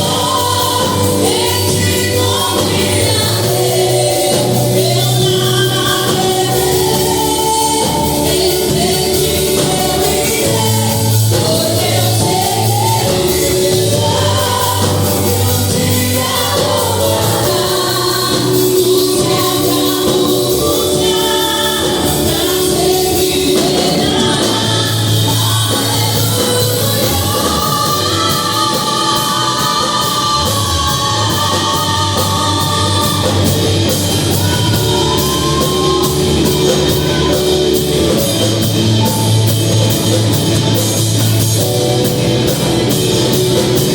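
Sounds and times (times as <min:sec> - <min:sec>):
song with band accompaniment: 0:00.0 - 0:43.9.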